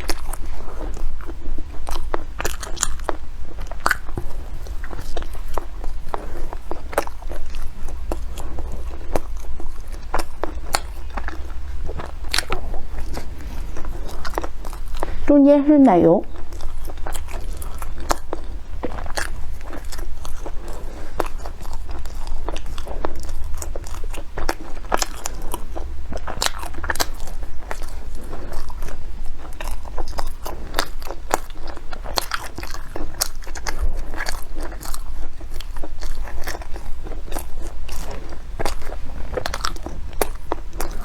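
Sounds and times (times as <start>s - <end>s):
person chewing a soft bun: 0.0s - 15.3s, 16.2s - 41.0s
steady low hum: 0.0s - 41.0s.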